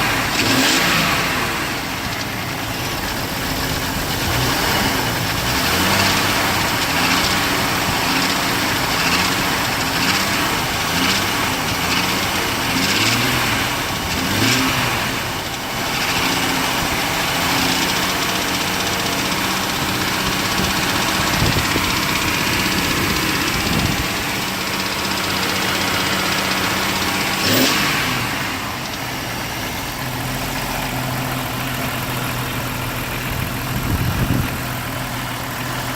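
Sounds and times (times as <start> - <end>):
engine revving with rattle: 0.0 - 35.9.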